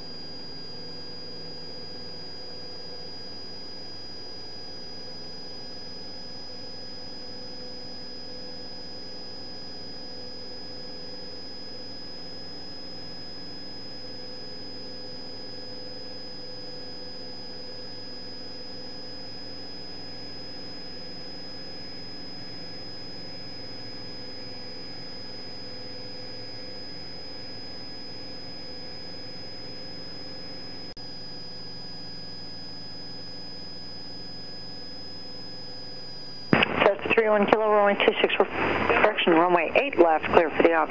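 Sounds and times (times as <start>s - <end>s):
high-pitched whine: 0.0s - 40.9s.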